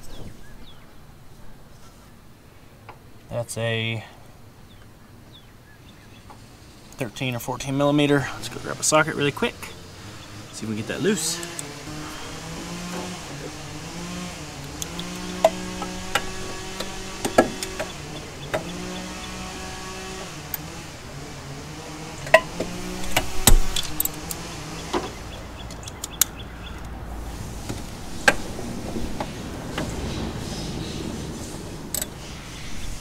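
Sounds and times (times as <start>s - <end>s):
low hum shifting in pitch: 5.9s - 33.0s.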